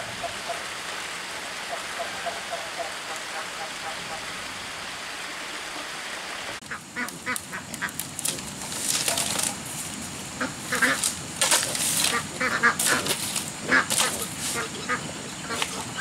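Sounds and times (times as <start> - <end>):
waterfowl calling: 0.0 - 1.0, 1.6 - 9.6, 10.3 - 16.0
steady hiss: 0.0 - 16.0.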